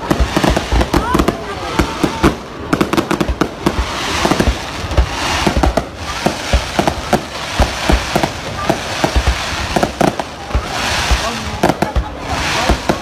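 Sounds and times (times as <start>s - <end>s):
continuous hiss: 0.0s - 13.0s
fireworks bangs: 0.0s - 13.0s.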